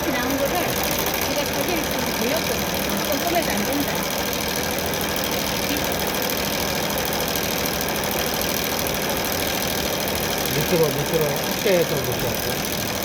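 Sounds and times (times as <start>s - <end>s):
drain-cleaning machine rattling: 0.0s - 13.0s.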